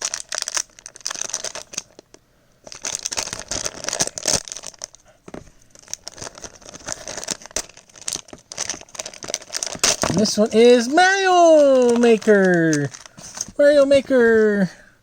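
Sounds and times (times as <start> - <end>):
plastic packet crinkling and tearing: 0.0 - 14.5.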